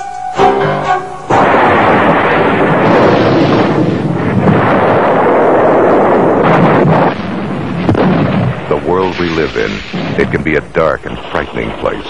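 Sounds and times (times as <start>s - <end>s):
loud rushing rumble: 1.2s - 11.8s.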